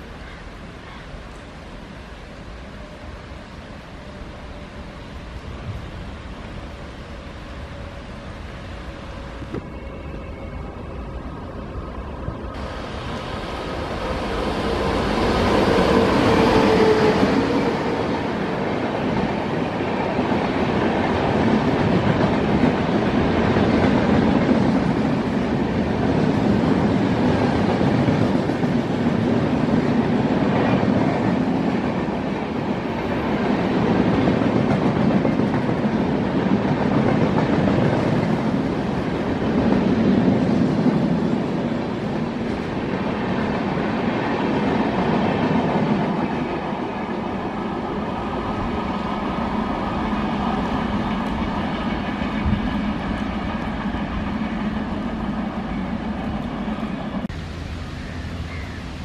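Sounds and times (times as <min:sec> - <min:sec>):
electric locomotive passing: 0:00.0 - 0:59.0
train coaches rolling rumble: 0:00.0 - 0:59.0.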